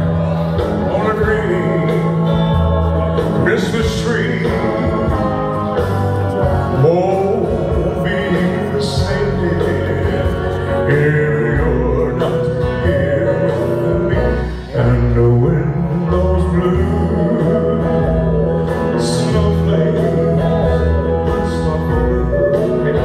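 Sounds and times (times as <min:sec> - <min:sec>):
country music with guitar and bass: 0:00.0 - 0:23.0
man singing into a microphone: 0:00.0 - 0:23.0.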